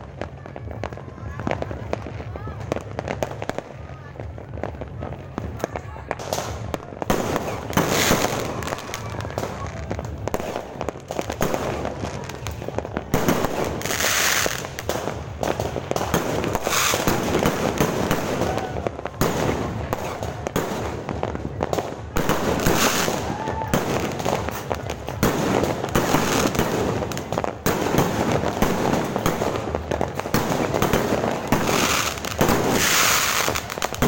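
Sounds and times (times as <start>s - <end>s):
fireworks cracking and banging: 0.0s - 34.0s.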